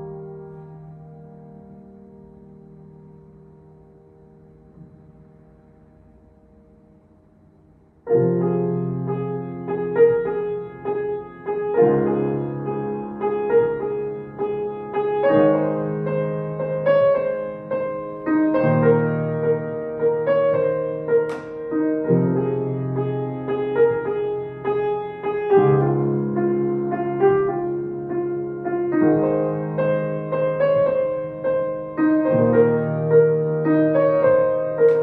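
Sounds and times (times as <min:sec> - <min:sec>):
piano piece: 0:00.0 - 0:35.0.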